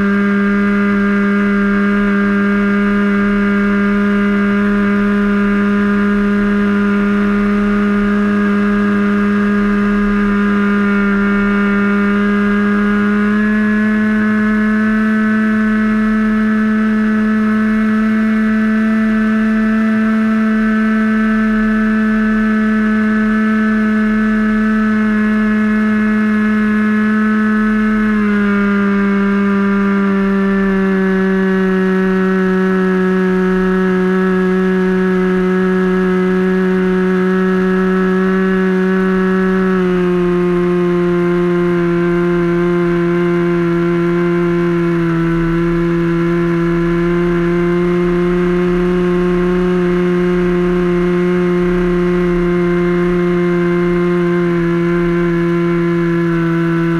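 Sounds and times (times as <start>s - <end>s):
model airplane engine buzzing: 0.0s - 56.9s.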